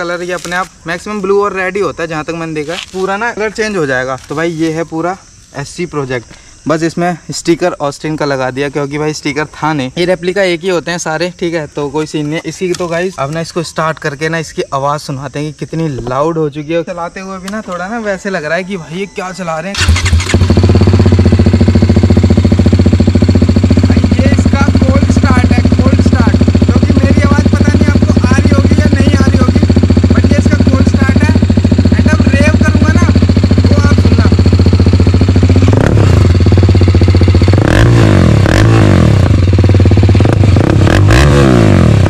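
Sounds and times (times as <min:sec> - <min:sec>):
motorcycle engine idling and revving: 0:00.0 - 0:15.1, 0:17.0 - 0:42.0.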